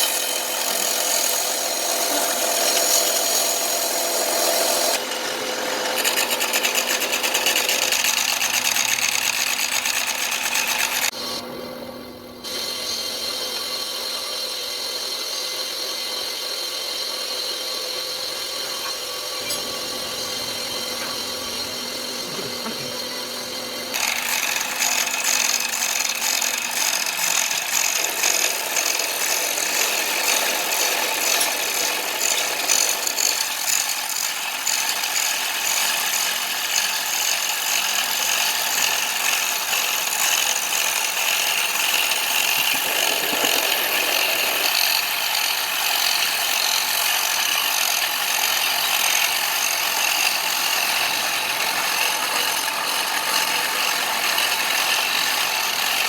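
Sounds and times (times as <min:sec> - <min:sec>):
grinding steel plate: 0:00.0 - 0:11.1, 0:18.2 - 0:35.1, 0:37.0 - 0:56.0
power tool motor hum: 0:00.0 - 0:11.2, 0:18.0 - 0:56.0.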